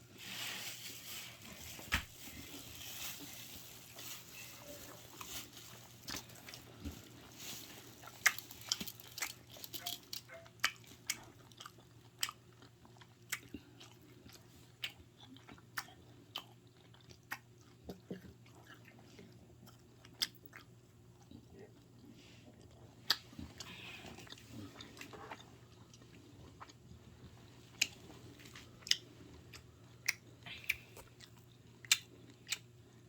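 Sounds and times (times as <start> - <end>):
person chewing and crunching food: 0.1 - 33.0.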